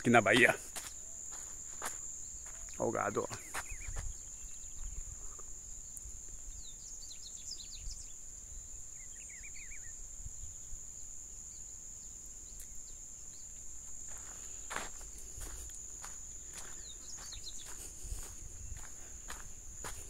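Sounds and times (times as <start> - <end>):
birds chirping: 0.0 - 10.8, 11.5 - 20.0.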